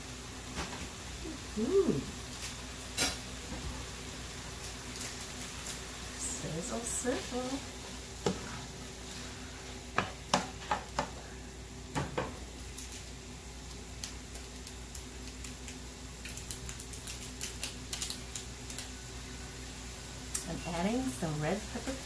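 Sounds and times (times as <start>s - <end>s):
food sizzling and crackling in pan: 0.0s - 22.0s
low steady hum: 0.0s - 22.0s.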